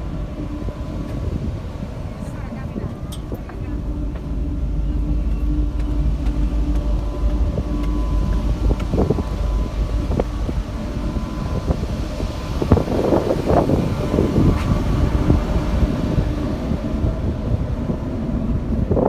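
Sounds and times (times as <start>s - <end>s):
ship engines rumbling: 0.0s - 19.0s.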